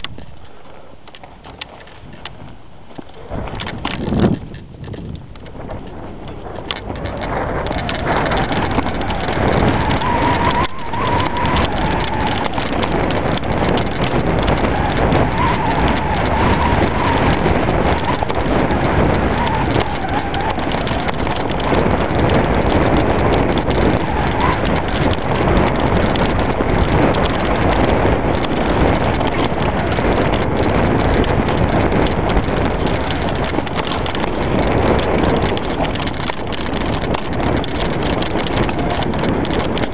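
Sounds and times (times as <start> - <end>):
bike rattling over rocks: 0.0 - 39.9
wind on microphone: 0.0 - 39.9.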